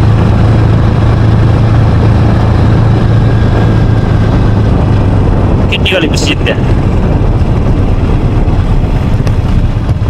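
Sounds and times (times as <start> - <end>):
small motorcycle engine droning: 0.0 - 10.0
wind and road rush: 0.0 - 10.0.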